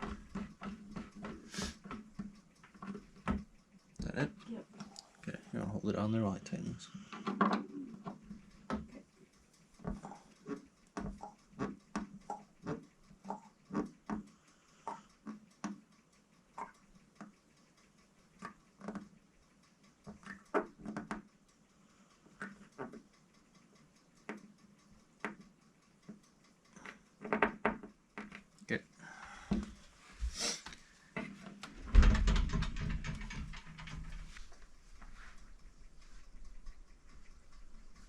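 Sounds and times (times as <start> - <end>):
light clicks and taps: 0.0 - 29.9, 30.6 - 38.0.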